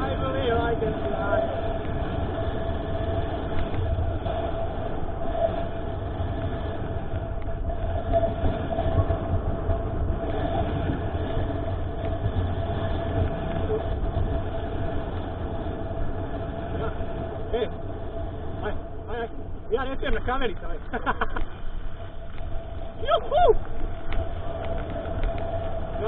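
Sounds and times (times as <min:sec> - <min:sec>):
bike rattling: 0:00.0 - 0:26.0
steady hum: 0:00.0 - 0:26.0
wind and tyres rumbling: 0:00.0 - 0:26.0.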